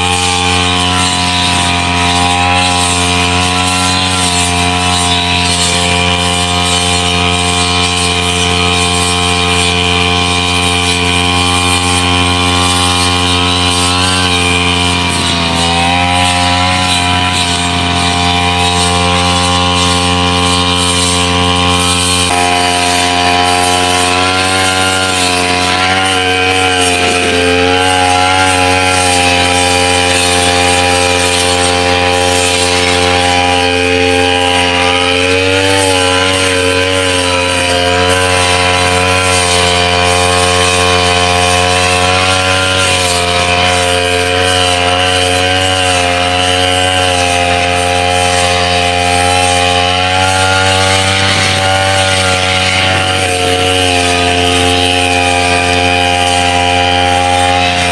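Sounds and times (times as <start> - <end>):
brush cutter engine running: 0.0 - 57.9.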